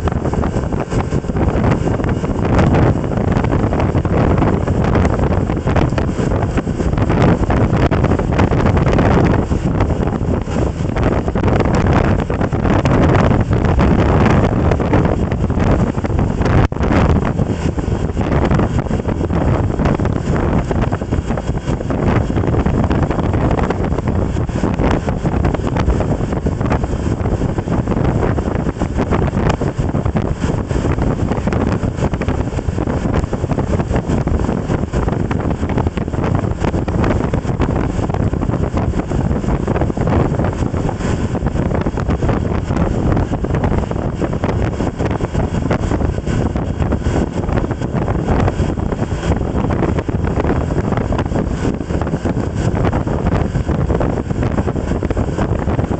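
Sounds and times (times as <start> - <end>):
vehicle under way: 0.0 - 55.9
wind rushing over microphone: 0.0 - 55.9.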